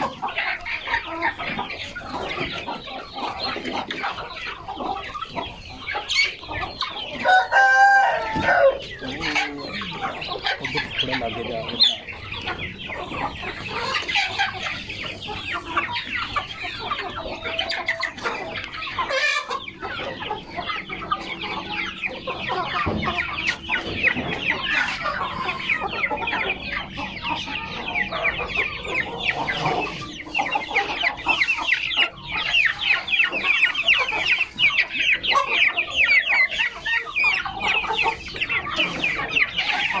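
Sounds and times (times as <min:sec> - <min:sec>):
chickens clucking and peeping: 0:00.0 - 0:40.0.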